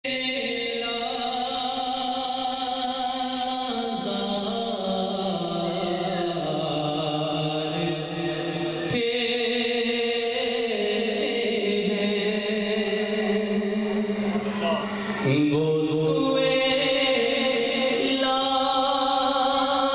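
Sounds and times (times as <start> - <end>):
man singing devotional song: 0.0 - 19.9.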